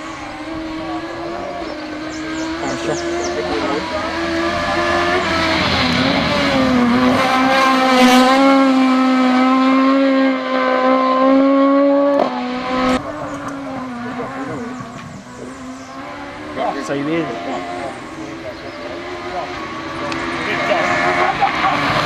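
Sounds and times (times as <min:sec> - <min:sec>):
rally car engine passing at high revs: 0:00.0 - 0:22.0.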